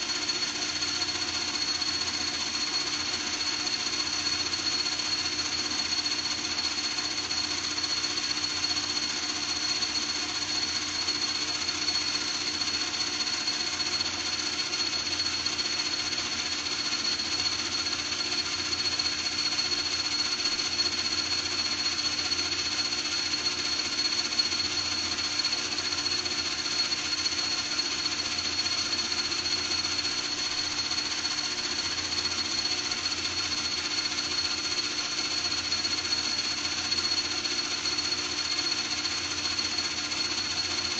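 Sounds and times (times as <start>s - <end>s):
power tool running with whine: 0.0s - 40.9s.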